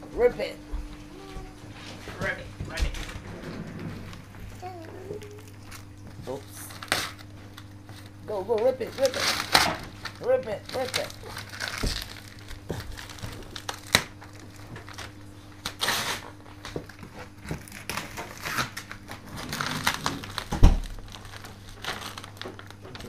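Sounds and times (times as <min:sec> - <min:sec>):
wrapping paper ripping and crumpling: 0:03.8 - 0:23.0.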